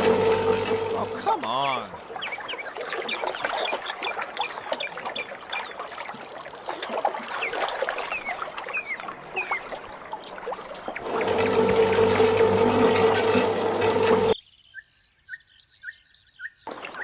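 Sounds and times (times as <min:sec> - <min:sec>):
water trickling and splashing: 0:00.0 - 0:14.4.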